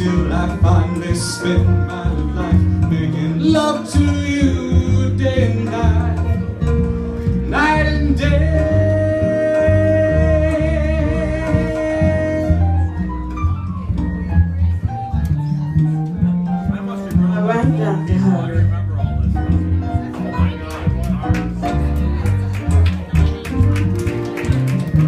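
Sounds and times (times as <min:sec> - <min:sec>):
jazz band playing: 0:00.0 - 0:25.0
plucked double bass line: 0:00.0 - 0:25.0.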